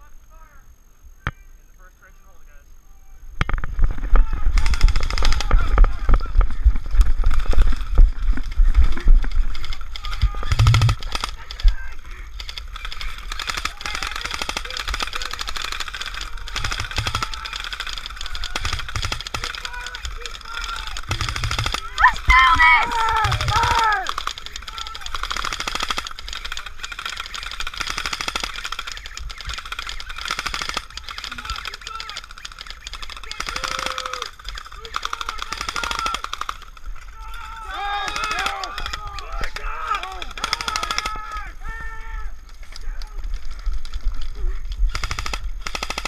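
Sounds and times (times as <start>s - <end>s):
airsoft guns firing: 3.4s - 41.5s, 44.9s - 46.0s.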